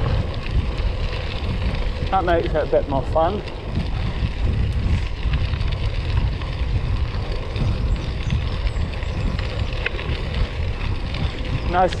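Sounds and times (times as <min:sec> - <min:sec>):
bicycle tyres crunching on stones: 0:00.0 - 0:12.0
wind on microphone: 0:00.0 - 0:12.0.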